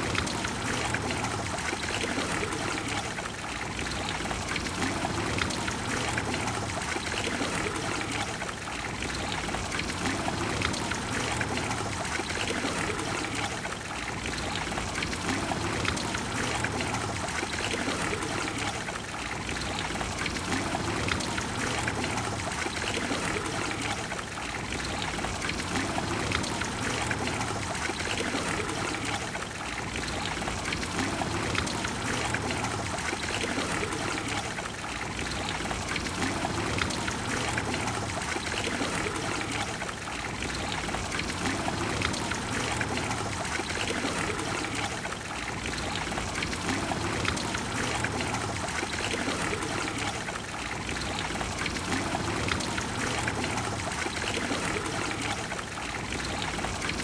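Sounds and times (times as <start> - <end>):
fountain water rushing: 0.0 - 57.0.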